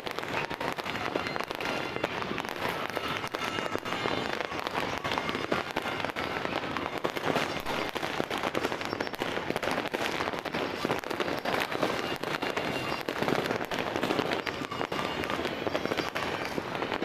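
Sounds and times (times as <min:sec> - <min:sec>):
firecrackers and fireworks crackling: 0:00.0 - 0:17.0.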